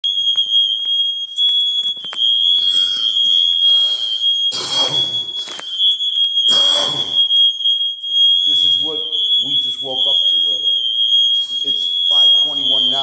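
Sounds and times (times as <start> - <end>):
smoke alarms high-pitched tone: 0.0 - 13.0.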